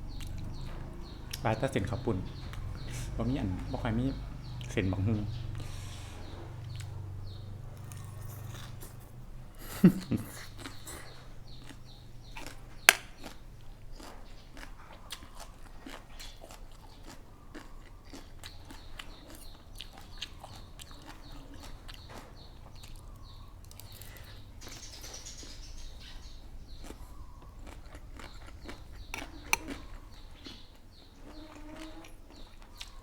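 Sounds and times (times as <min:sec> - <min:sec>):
person chewing crunchy food: 0:05.5 - 0:33.0.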